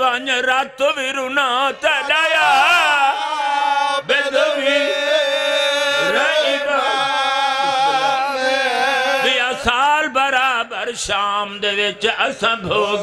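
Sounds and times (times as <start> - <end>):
men chanting in chorus: 0.0 - 13.0.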